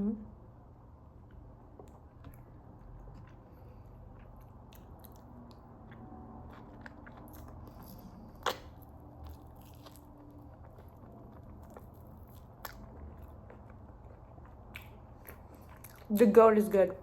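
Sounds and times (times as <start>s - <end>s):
wet chewing: 1.8s - 16.4s.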